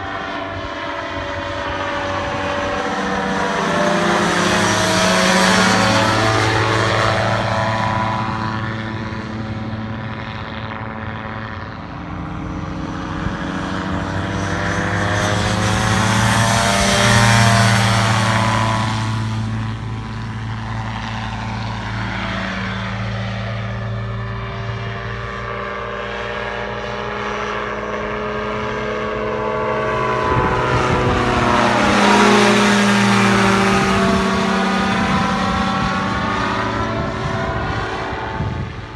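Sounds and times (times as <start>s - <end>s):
gyroplane engine flying past: 0.0s - 38.9s.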